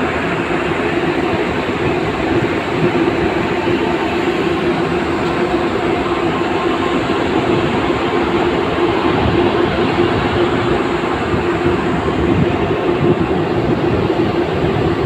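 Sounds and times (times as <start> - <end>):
constant low hum: 0.0 - 15.0
ship under way: 0.0 - 15.0.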